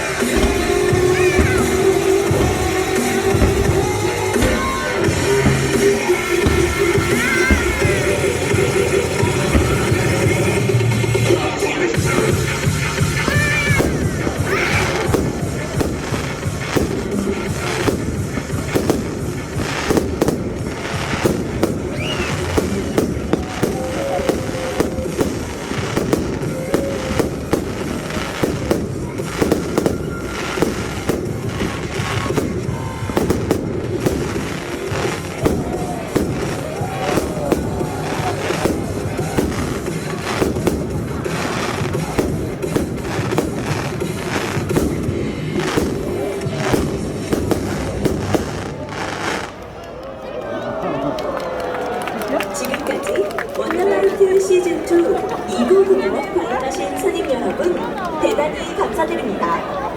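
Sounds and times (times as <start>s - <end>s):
show music: 0.0s - 49.4s
fireworks bangs and cracks: 0.0s - 50.2s, 51.2s - 59.9s.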